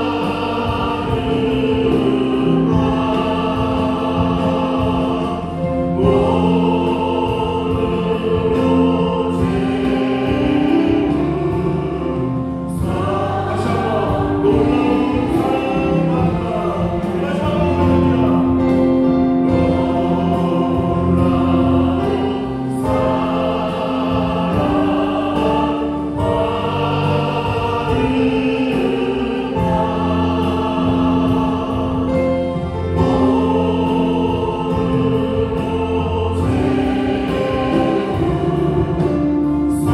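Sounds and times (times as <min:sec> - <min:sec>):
bass guitar: 0:00.0 - 0:39.9
choir singing a hymn: 0:00.0 - 0:39.9
drums: 0:00.0 - 0:39.9.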